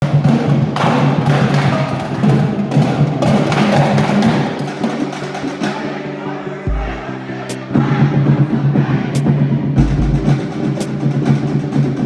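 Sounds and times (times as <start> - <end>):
percussion-driven music: 0.0 - 12.0.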